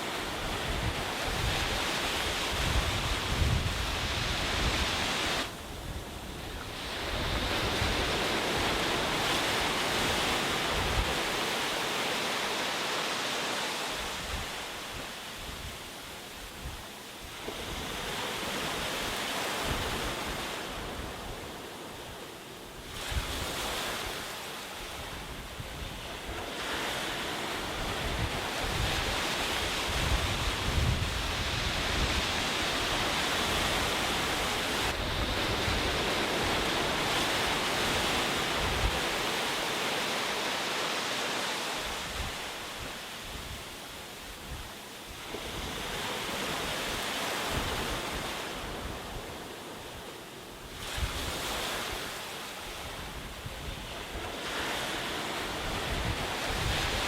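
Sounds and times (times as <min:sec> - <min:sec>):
wind rumble on microphone: 0:00.0 - 0:11.5, 0:14.0 - 0:39.6, 0:41.8 - 0:57.0
sea waves washing onto beach: 0:00.0 - 0:57.0.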